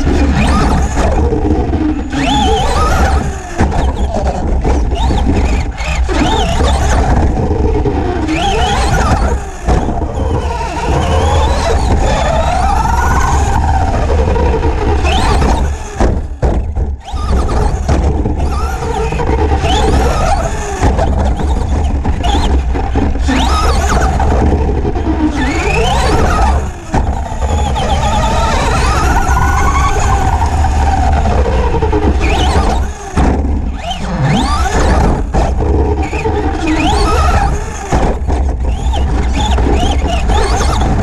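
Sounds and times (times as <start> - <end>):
electric toy truck motor whining: 0.0 - 41.0
tires rumbling on dirt: 0.0 - 41.0.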